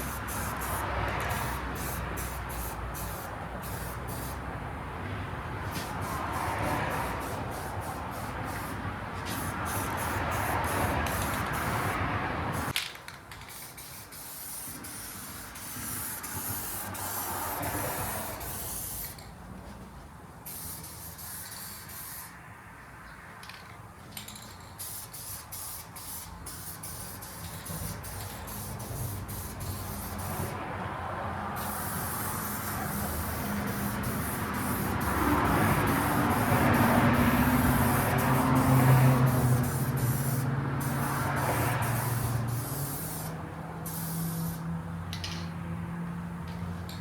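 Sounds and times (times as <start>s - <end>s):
paint spraying hiss: 0.0s - 4.4s, 5.7s - 12.7s, 13.5s - 19.2s, 20.5s - 22.4s, 24.8s - 30.6s, 31.5s - 44.6s.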